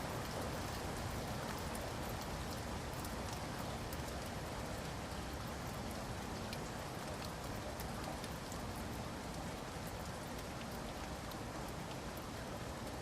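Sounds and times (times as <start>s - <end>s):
rain falling in forest: 0.0s - 13.0s
raindrops ticking on surfaces: 0.0s - 13.0s.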